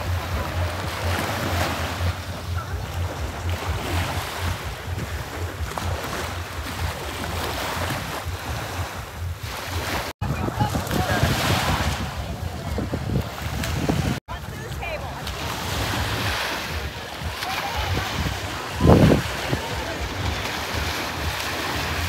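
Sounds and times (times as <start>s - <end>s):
waves breaking on sandy beach: 0.0s - 22.0s
wind buffeting microphone: 0.0s - 22.0s.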